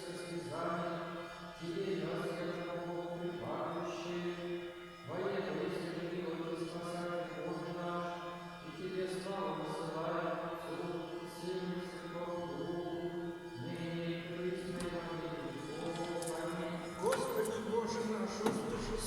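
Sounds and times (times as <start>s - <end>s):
choir chanting in held chords: 0.0s - 19.0s.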